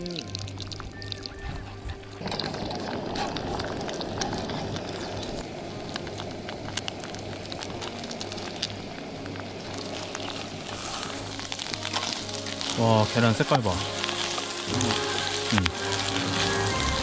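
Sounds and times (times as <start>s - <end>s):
eggs sizzling in oil: 0.0s - 17.0s.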